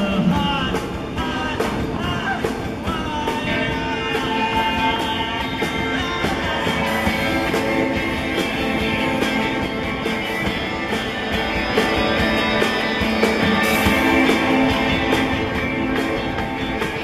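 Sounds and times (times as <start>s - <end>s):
electric guitar: 0.0s - 17.0s
live rock band playing: 0.0s - 17.0s
steady drum beat: 0.0s - 17.0s.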